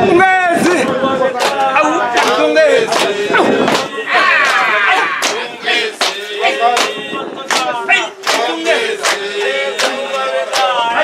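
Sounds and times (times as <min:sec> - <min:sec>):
men singing together: 0:00.0 - 0:11.0.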